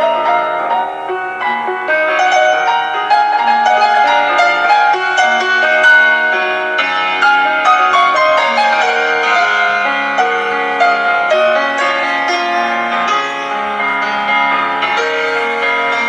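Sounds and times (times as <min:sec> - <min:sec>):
slow classical piano piece: 0:00.0 - 0:16.0.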